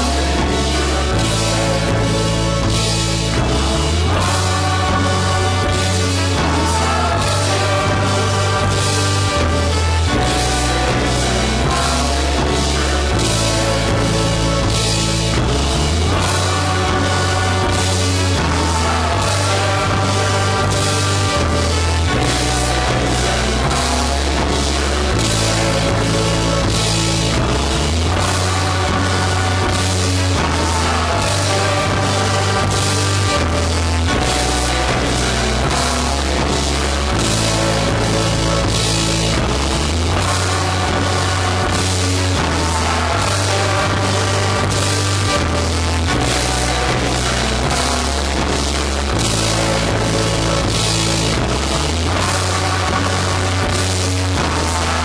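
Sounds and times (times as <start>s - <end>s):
bass and electric guitars: 0.0s - 55.0s
drum kit beat: 0.0s - 55.0s.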